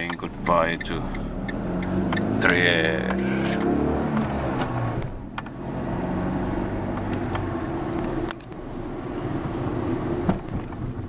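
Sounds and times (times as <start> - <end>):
car engine running: 0.0 - 11.0
tyres on road: 0.0 - 11.0.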